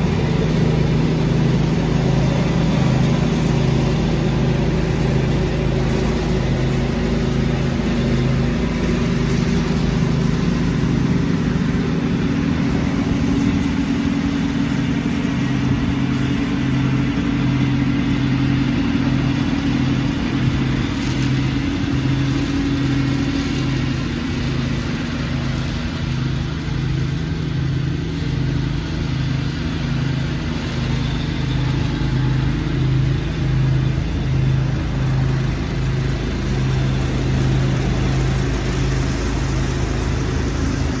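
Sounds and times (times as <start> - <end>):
small petrol engine running: 0.0 - 41.0.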